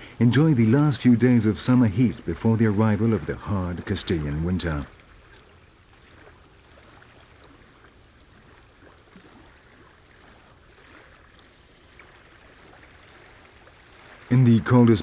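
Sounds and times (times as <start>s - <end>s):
water gently lapping: 0.0s - 15.0s.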